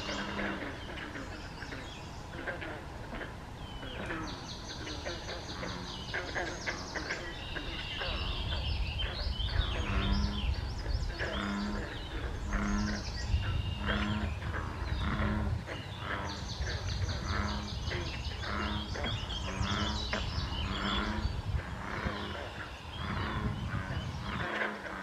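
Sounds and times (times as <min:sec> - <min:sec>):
low frog croak: 0:00.0 - 0:25.0.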